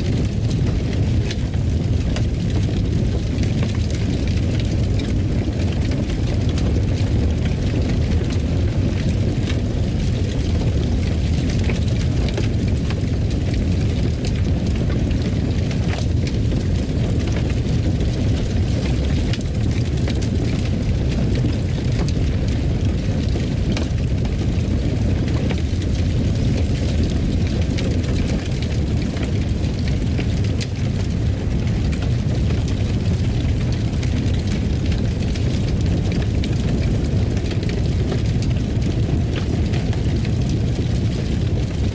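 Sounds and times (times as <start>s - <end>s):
fire crackling and popping: 0.0s - 41.9s
fireplace fire burning: 0.0s - 41.9s.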